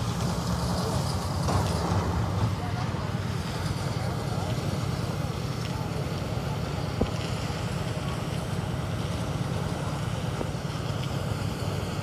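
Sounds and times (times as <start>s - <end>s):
concrete mixer engine droning: 0.0s - 12.0s.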